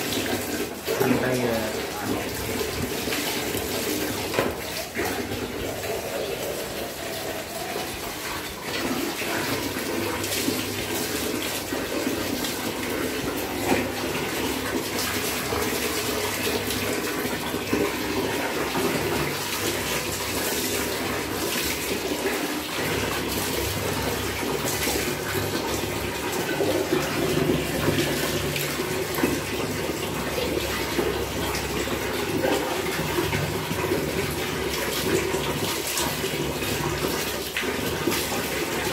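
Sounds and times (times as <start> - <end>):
water running and splashing: 0.0 - 38.9
water spattering on tile floor: 0.0 - 38.9.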